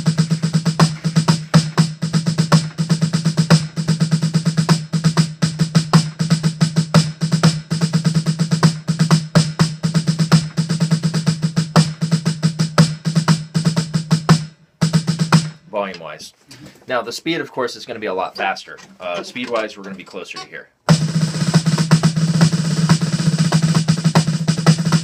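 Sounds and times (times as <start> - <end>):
snare drum solo: 0.0 - 15.7, 20.4 - 25.0.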